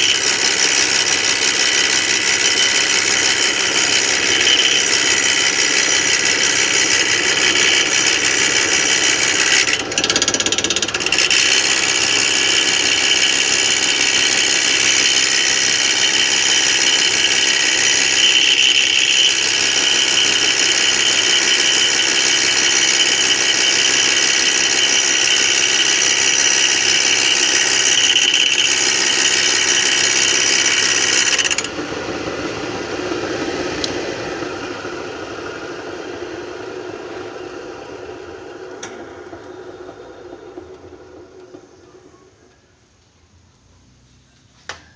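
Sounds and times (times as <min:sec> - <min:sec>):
lathe motor whine: 0:00.0 - 0:42.6.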